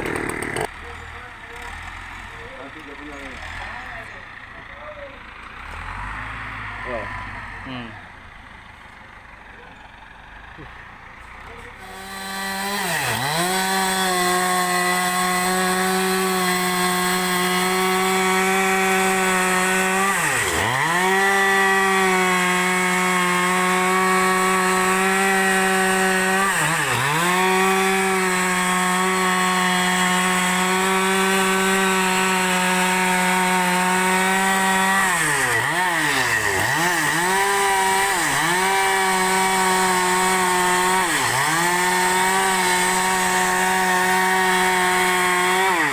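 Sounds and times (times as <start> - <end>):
chainsaw cutting a log: 0.0 - 7.9, 9.9 - 45.9.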